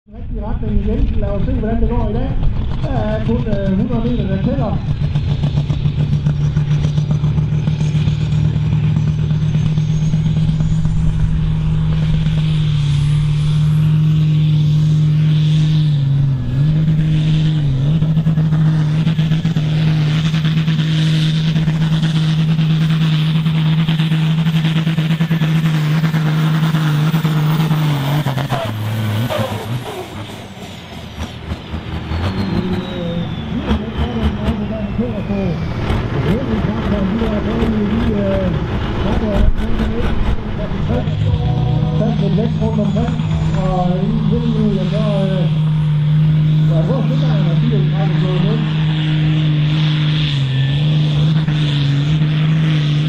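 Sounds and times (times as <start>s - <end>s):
high whine: 0.1s - 53.0s
tractor engine running under full load: 0.1s - 53.0s.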